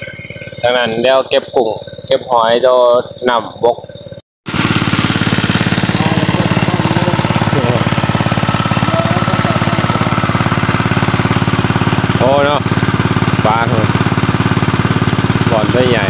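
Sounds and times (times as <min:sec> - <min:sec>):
small pump engine running: 0:00.0 - 0:16.0.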